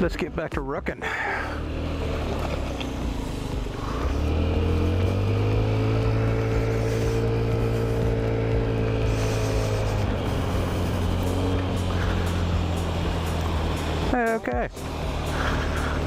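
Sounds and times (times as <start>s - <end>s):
scooter engine revving: 1.3s - 16.0s.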